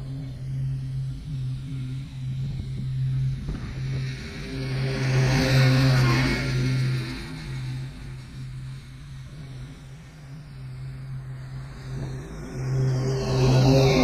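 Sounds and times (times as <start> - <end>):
engine passing by: 0.0 - 14.0
low engine hum: 0.0 - 14.0.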